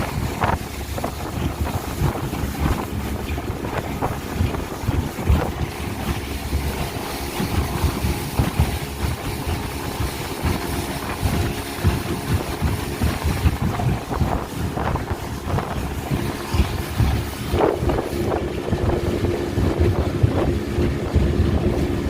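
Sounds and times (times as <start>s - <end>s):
speedboat engine running: 0.0s - 22.0s
wind buffeting microphone: 0.0s - 22.0s.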